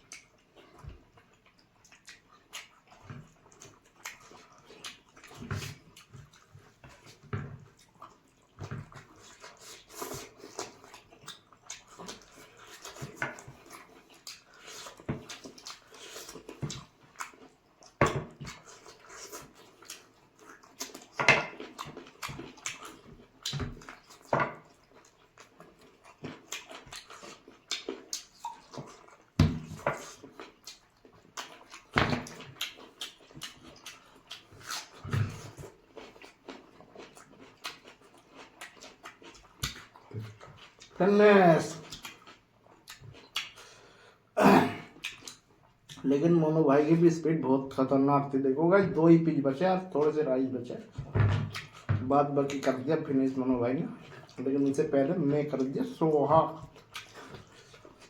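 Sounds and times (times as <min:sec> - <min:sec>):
wet chewing and lip-smacking: 0:00.0 - 0:41.0, 0:41.6 - 0:46.1, 0:50.8 - 0:51.9, 0:53.9 - 0:58.0.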